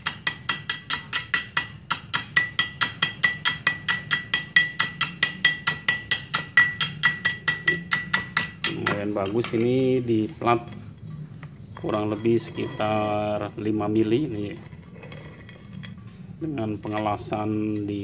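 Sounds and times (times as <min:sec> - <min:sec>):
metal tapping on welded plate: 0:00.0 - 0:16.2.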